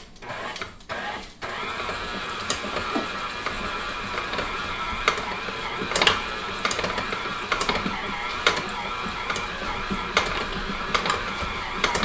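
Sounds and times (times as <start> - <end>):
stand mixer running: 0.2 - 12.0.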